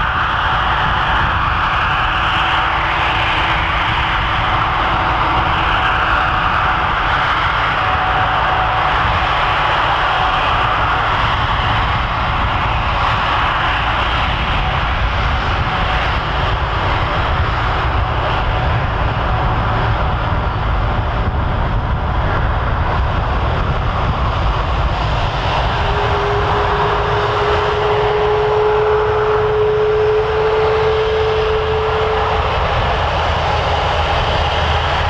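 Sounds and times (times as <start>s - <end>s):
jet engine whine: 0.0s - 35.0s
jet engines rumbling: 0.0s - 35.0s.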